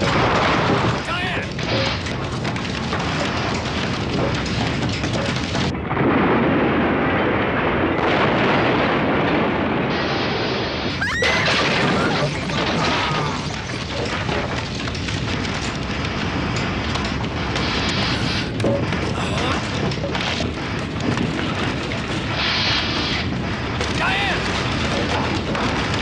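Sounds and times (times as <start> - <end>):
crashing noise: 0.0 - 26.0
heavy earthquake rumbling: 0.0 - 26.0.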